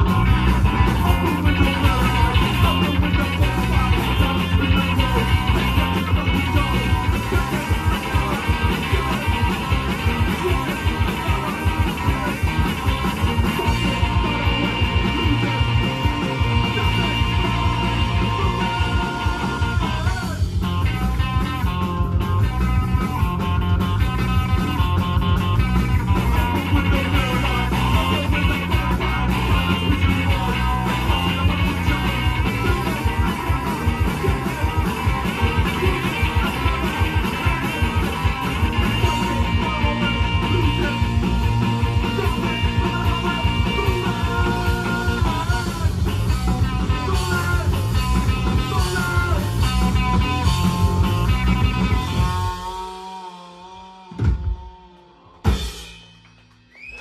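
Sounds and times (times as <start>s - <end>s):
man singing into a microphone: 0.0s - 20.4s, 26.2s - 36.8s, 37.4s - 49.8s, 51.9s - 55.4s
drum kit: 0.0s - 57.0s
electric guitars: 0.0s - 57.0s.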